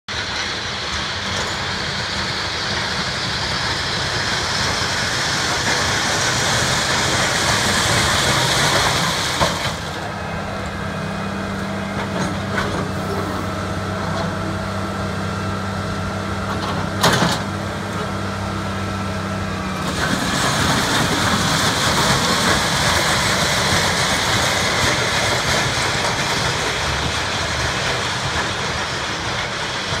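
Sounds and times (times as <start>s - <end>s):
diesel engine drone: 0.1s - 30.0s.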